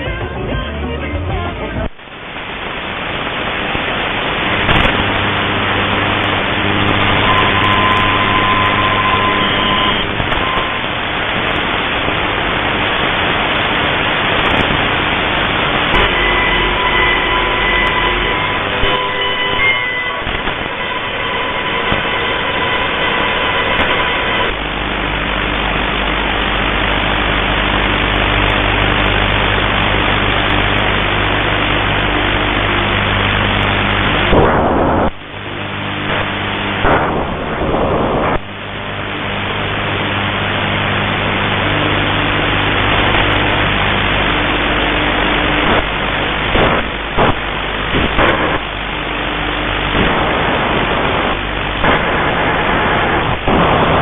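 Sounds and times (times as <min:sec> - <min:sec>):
faint low buzz: 0:00.0 - 0:54.0
radio static hiss: 0:00.0 - 0:54.0.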